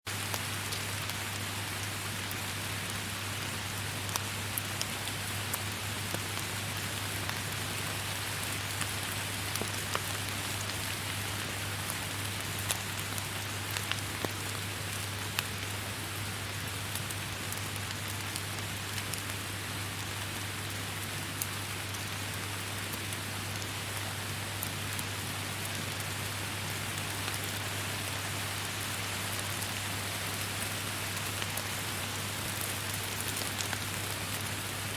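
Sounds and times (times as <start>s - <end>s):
raindrops striking close by: 0.1s - 34.9s.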